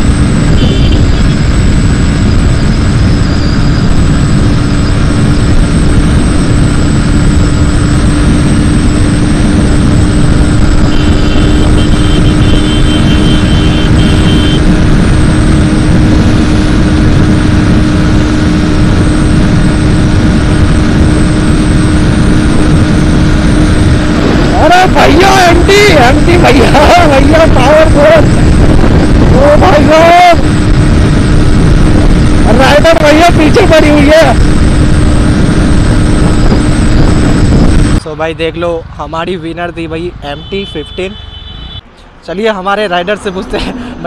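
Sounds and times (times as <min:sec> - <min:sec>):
motorcycle engine at high speed: 0:00.0 - 0:38.0
wind rumble on microphone: 0:00.0 - 0:38.0.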